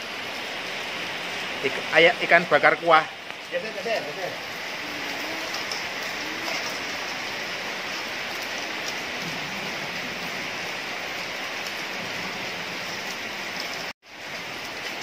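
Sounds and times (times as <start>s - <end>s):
rain on wet paving: 0.0s - 15.0s.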